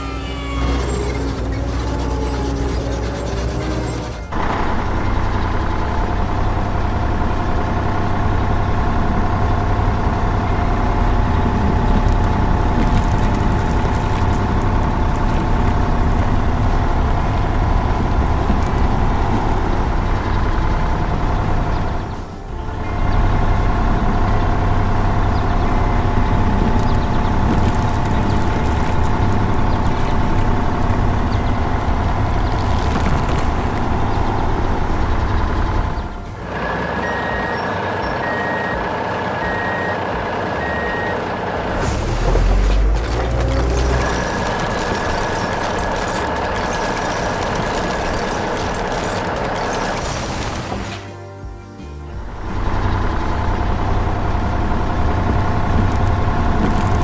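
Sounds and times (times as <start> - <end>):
road roller engine running: 0.0 - 57.0.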